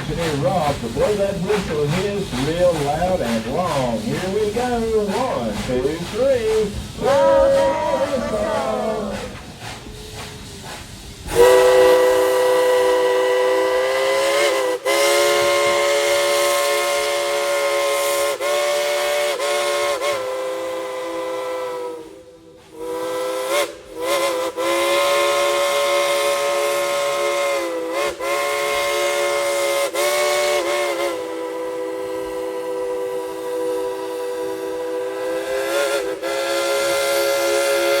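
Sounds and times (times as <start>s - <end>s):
steam hissing: 0.0s - 38.0s
steam locomotive chime whistle: 2.0s - 10.4s, 11.2s - 38.0s.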